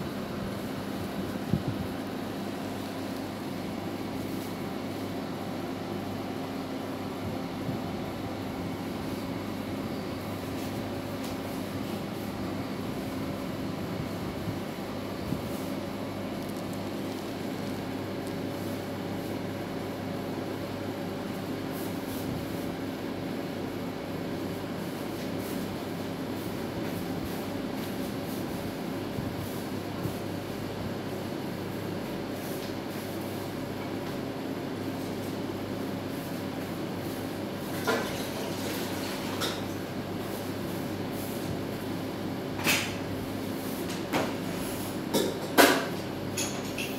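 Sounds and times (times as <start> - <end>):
microwave oven humming: 0.0 - 46.9.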